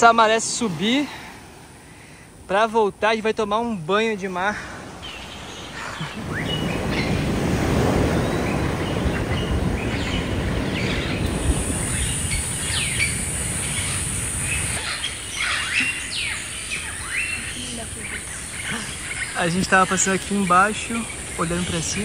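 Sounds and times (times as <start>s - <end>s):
high even hiss: 0.0s - 8.9s, 10.0s - 22.0s
birds chirping: 0.0s - 22.0s.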